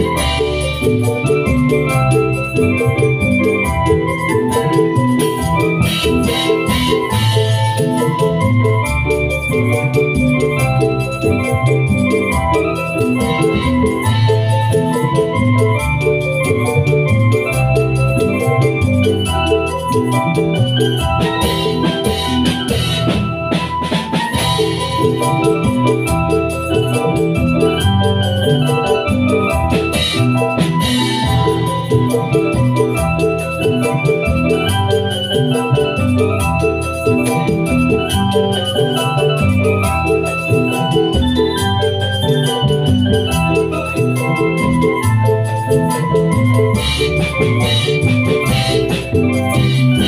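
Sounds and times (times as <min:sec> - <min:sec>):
drums and cymbals: 0:00.0 - 0:50.0
electronic keyboard melody: 0:00.0 - 0:50.0
steady percussion beat: 0:00.0 - 0:50.0.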